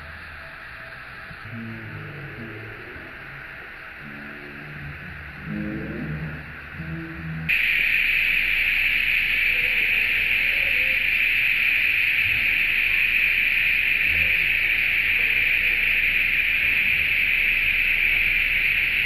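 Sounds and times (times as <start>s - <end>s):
cicadas buzzing: 0.0s - 19.0s.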